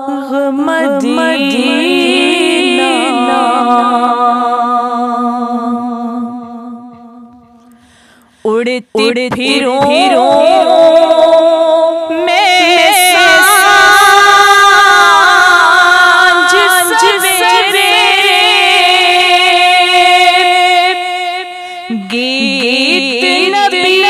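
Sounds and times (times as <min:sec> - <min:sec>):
woman singing devotional song: 0:00.0 - 0:24.0.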